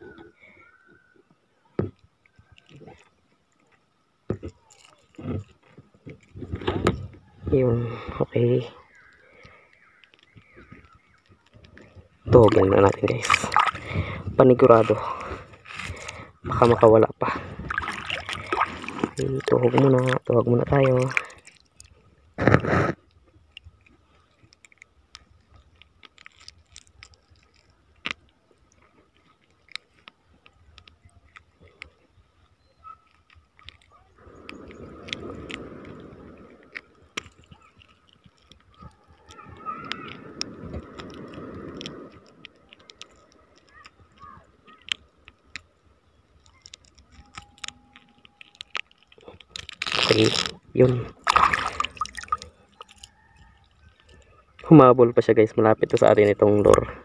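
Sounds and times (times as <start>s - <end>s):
faint clicks and scrapes: 0.0s - 7.5s, 8.8s - 16.4s, 17.7s - 54.8s.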